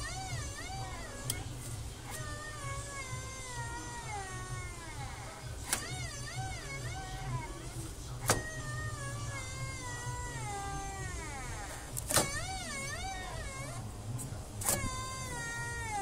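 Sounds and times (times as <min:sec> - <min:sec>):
water pump squealing: 0:00.0 - 0:16.0.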